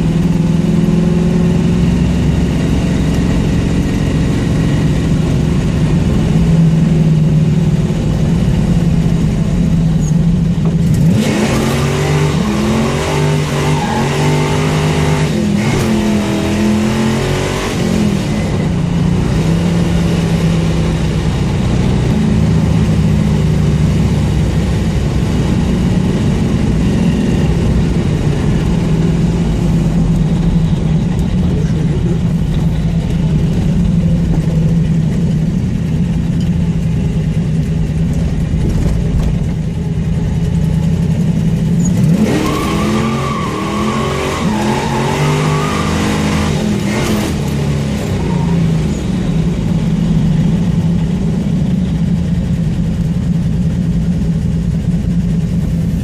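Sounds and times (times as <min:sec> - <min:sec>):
car engine revving: 0:00.0 - 0:56.0
car engine with exhaust leak: 0:00.0 - 0:56.0.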